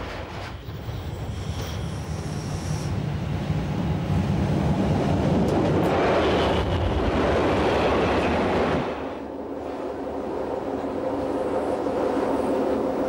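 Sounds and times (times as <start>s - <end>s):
railcar wheels rumbling on rails: 0.0s - 13.0s.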